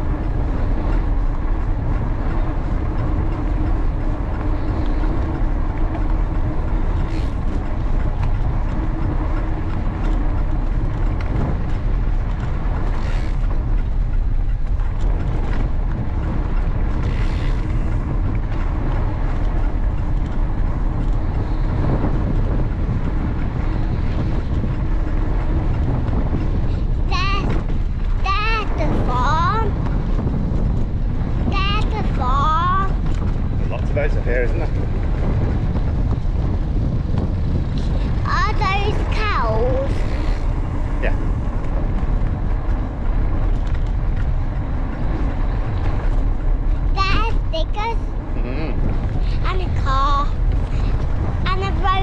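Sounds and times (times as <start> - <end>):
bike tyres rolling on gravel: 0.0 - 52.0
wind buffeting microphone: 0.0 - 52.0.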